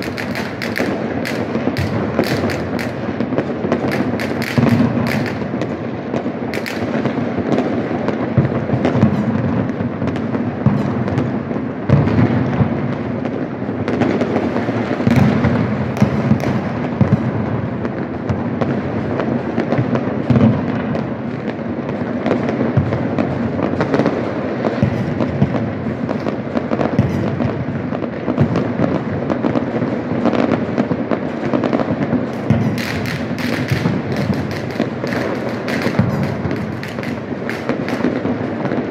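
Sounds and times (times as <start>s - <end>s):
fireworks and firecrackers bangs: 0.0s - 38.9s.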